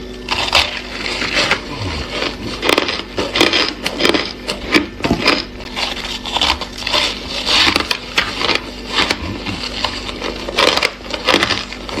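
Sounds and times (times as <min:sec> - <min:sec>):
ice crunching while chewed: 0:00.0 - 0:12.0.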